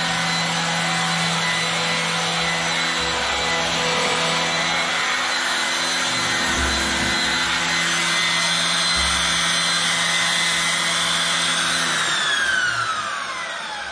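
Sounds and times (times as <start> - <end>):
vacuum cleaner on carpet: 0.0 - 13.9.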